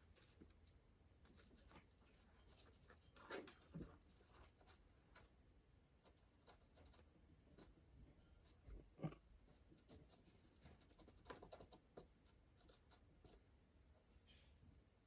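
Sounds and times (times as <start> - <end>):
faint scratching and light taps: 0.0 - 14.5.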